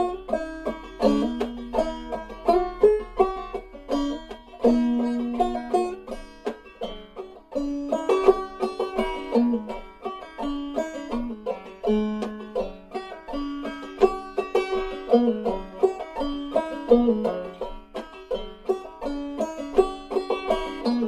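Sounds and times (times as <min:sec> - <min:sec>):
banjo playing fiddle tune: 0:00.0 - 0:21.0.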